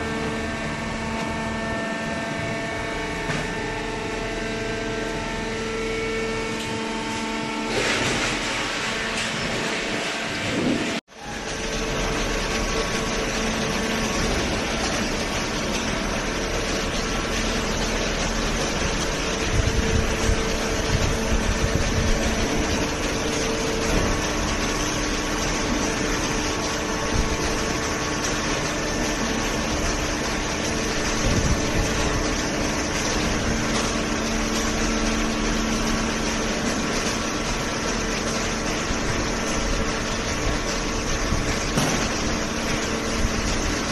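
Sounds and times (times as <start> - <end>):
cardboard baler running: 0.0 - 43.9
hydraulic pump humming: 0.0 - 43.9
steady machine tone: 0.0 - 43.9.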